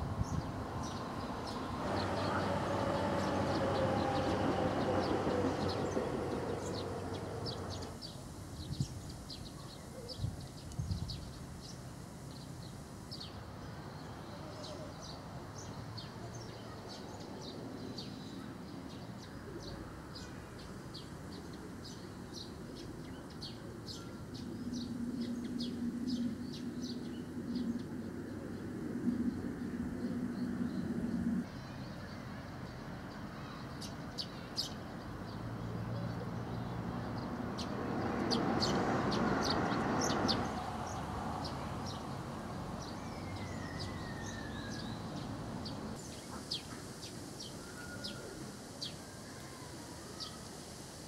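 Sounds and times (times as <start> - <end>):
passing train whine: 0.0 - 8.4, 13.4 - 31.6, 35.0 - 51.0
small birds chirping: 0.2 - 51.0.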